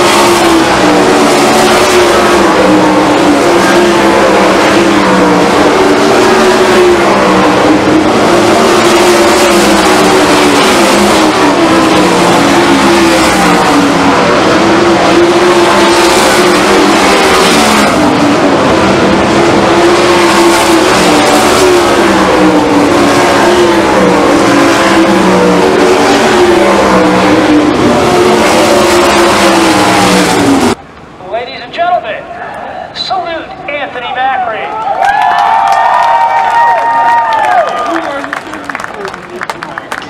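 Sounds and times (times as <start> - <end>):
race car engines passing: 0.0 - 40.0.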